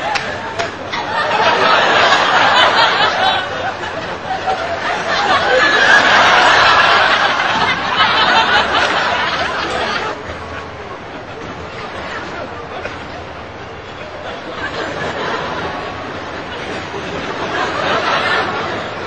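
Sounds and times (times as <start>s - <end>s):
audience laughing: 0.0s - 19.0s.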